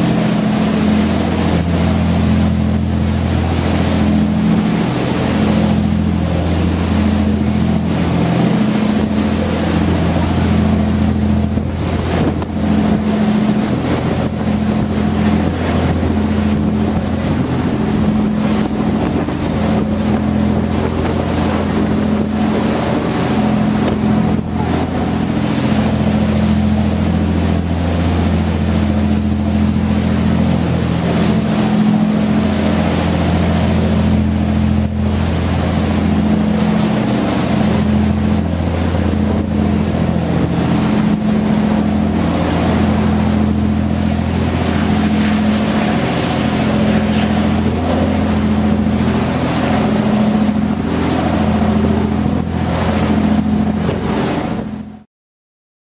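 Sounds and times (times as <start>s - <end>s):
wind and water hiss: 0.0s - 54.9s
boat engine droning: 0.0s - 55.1s.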